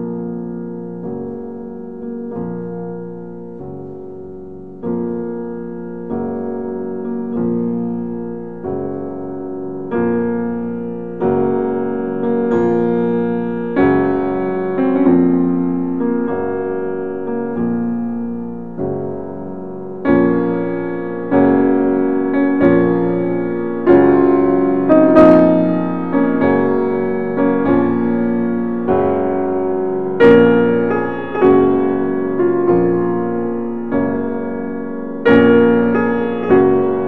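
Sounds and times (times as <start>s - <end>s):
slow piano chords: 0.0s - 37.0s.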